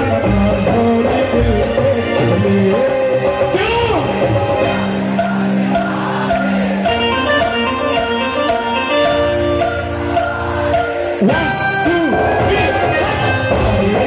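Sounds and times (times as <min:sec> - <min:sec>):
steady percussion beat: 0:00.0 - 0:14.0
sustained keyboard notes: 0:00.0 - 0:14.0.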